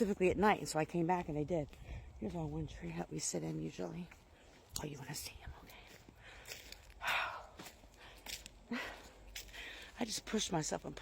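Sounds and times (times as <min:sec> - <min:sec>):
soft footsteps on a path: 0:00.0 - 0:11.0.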